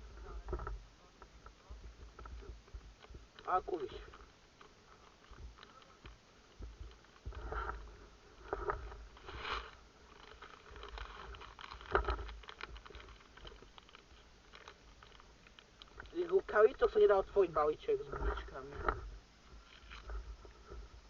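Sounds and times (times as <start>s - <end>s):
rustling and handling noise: 0.0s - 21.0s.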